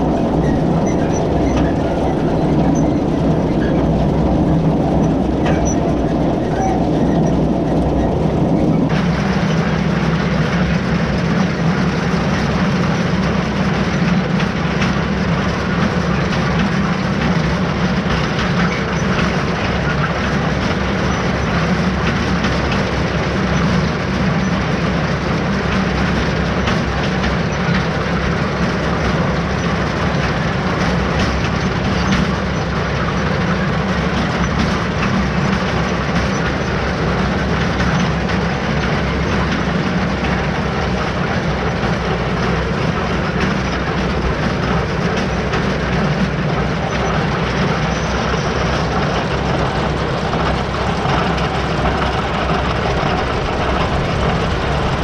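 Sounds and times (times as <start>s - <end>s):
tractor and mower running: 0.0s - 55.0s.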